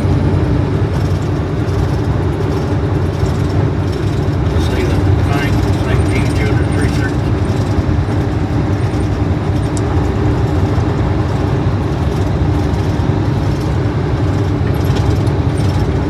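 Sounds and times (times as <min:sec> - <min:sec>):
road and engine noise inside car: 0:00.0 - 0:16.0.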